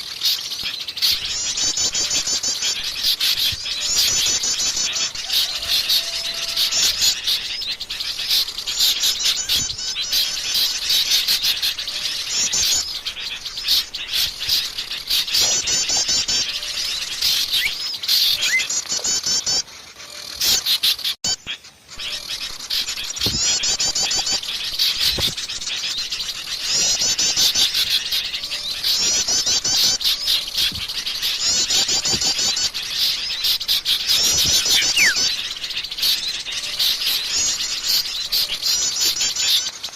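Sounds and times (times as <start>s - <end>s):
songbirds chattering and chirping: 0.0s - 39.9s.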